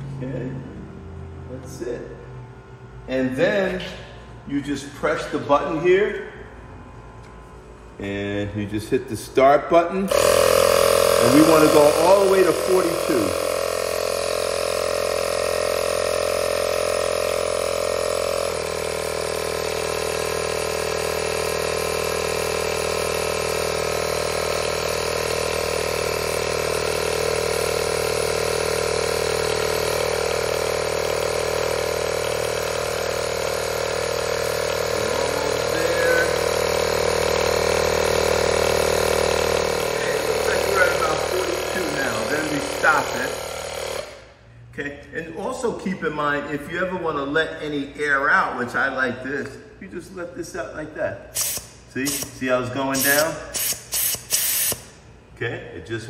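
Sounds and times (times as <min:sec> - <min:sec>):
air compressor drone: 0:00.0 - 0:56.0.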